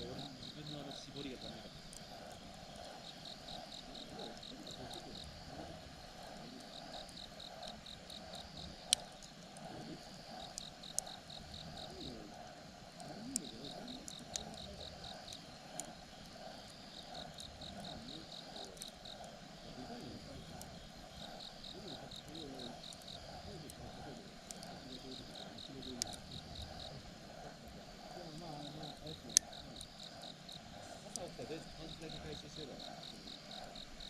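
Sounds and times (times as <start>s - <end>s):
insects chirping: 0.0s - 34.0s
wood fire crackling: 0.0s - 34.0s.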